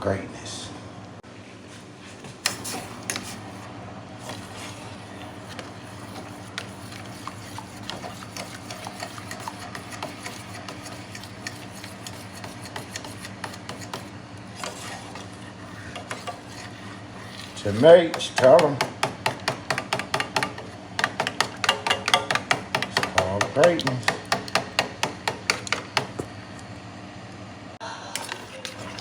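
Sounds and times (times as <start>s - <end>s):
steady low hum: 0.0s - 29.0s
spoon scraping a pot: 2.4s - 3.6s, 4.2s - 26.3s, 28.2s - 29.0s.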